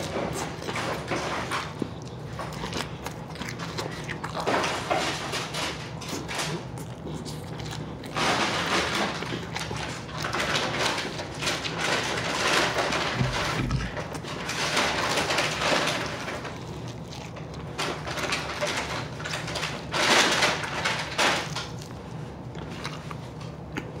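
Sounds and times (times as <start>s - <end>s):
chewing and mouth sounds: 0.0s - 24.0s.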